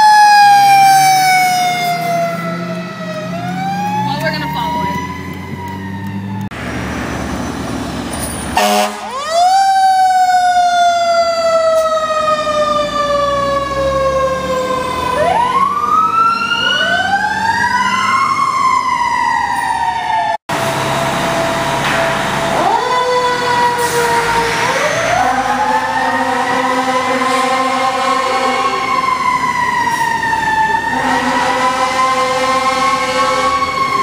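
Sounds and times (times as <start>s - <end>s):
fire engine siren wailing: 0.0s - 34.0s
truck and road noise: 0.0s - 34.0s.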